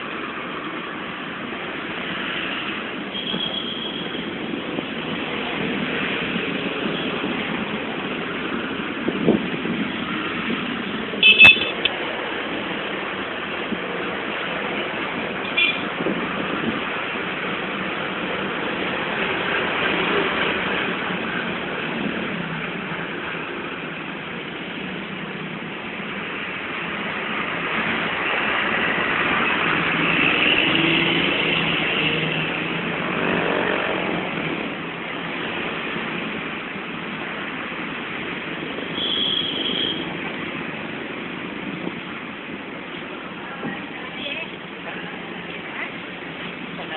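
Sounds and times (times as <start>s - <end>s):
cars and motorcycles passing: 0.0s - 46.9s.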